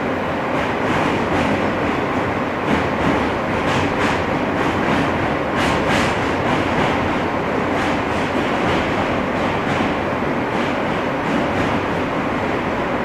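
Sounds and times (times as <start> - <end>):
subway car wheels rumbling on rail: 0.0 - 13.0.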